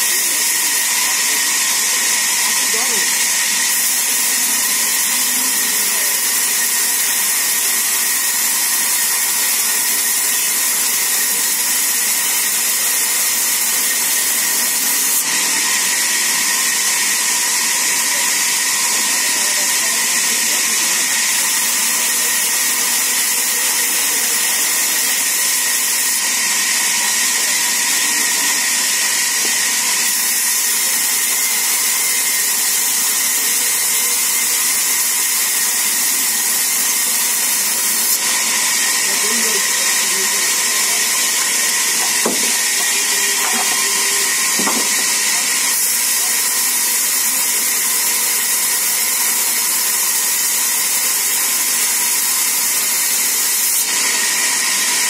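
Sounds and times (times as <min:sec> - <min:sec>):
band saw cutting wood: 0:00.0 - 0:55.0.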